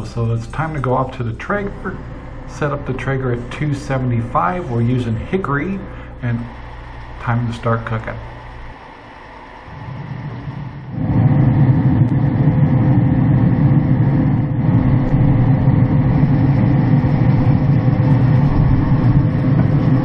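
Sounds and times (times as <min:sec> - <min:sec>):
faint steady whine: 0:00.0 - 0:20.0
grill fan and fire rushing: 0:00.0 - 0:20.0.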